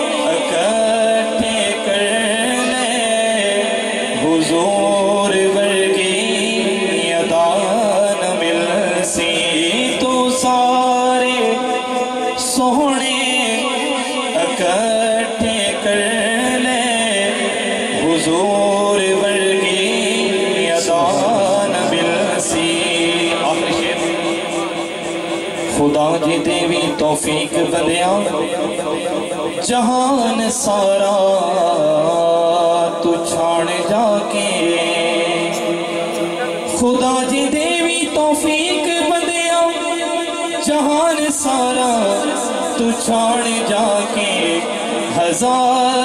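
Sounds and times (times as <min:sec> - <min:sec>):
man singing into a microphone: 0:00.0 - 0:46.0.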